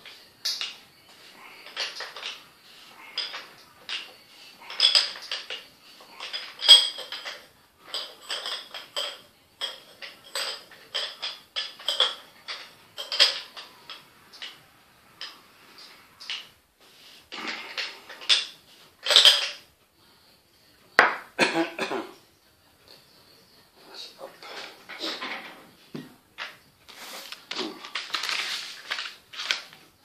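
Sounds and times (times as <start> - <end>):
small hard parts clinking: 0.0 - 16.6, 17.3 - 19.7, 24.4 - 29.9.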